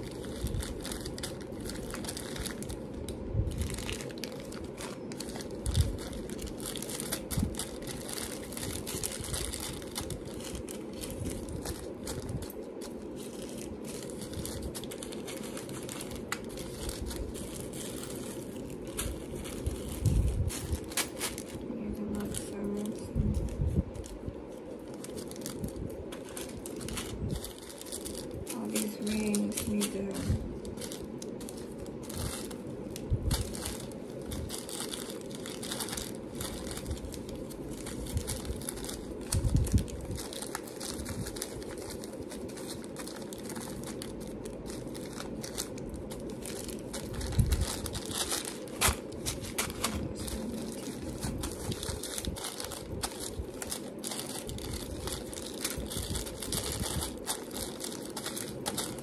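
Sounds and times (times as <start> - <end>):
packaging crinkling: 0.0 - 59.0.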